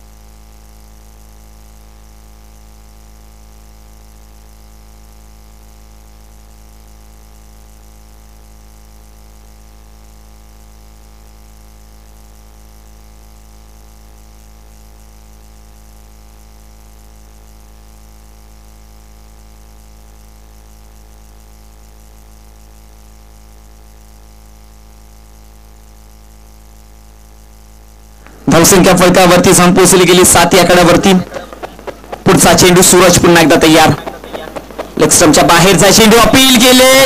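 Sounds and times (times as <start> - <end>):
low electrical hum and buzz: 0.0 - 37.0.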